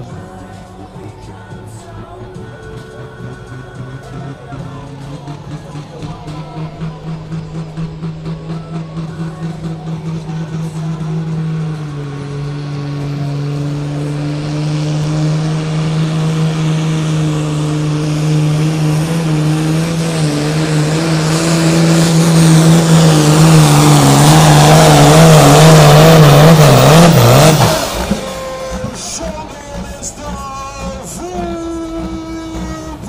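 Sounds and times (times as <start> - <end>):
diesel tractor engine under load: 0.0 - 33.0.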